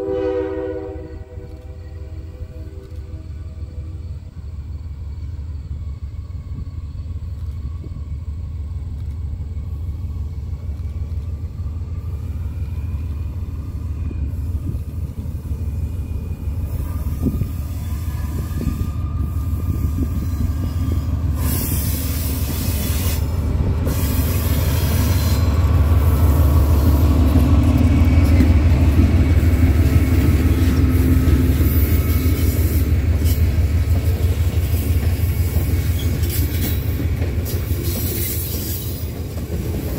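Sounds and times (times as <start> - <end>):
diesel locomotive engine rumbling: 0.0 - 39.9
train wheels running on rails: 0.0 - 39.9.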